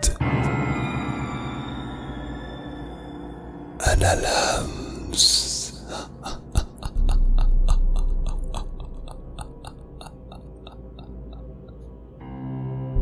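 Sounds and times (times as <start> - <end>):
low steady drone: 0.0 - 13.0.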